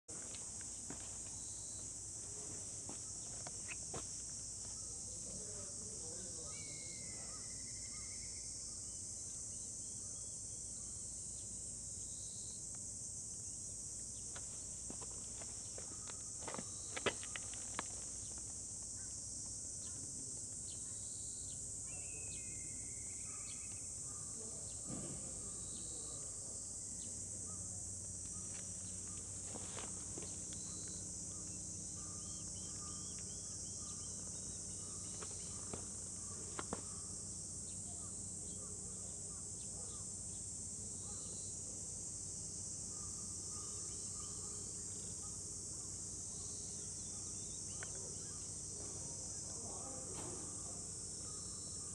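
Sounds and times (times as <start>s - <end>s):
high-pitched insect drone: 0.2s - 51.9s.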